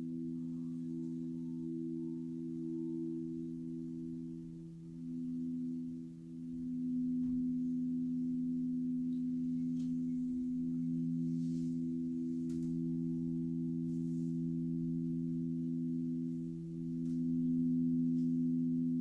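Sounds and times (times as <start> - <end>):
crystal singing bowls ringing: 0.0 - 19.0.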